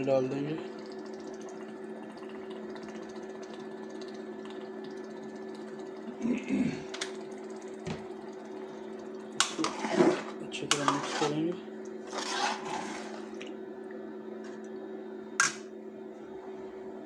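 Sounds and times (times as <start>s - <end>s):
induction cooker humming: 0.0s - 17.0s.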